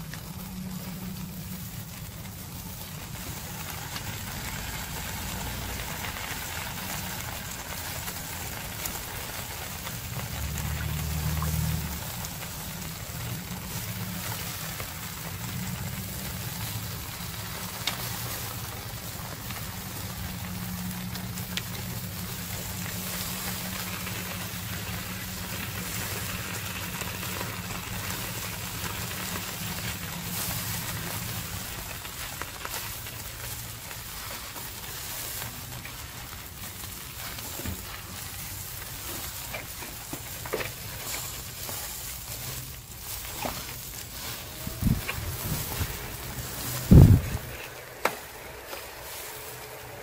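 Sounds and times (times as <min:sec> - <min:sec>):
fish sizzling on charcoal grill: 0:00.0 - 0:50.0
low steady hum: 0:00.0 - 0:50.0.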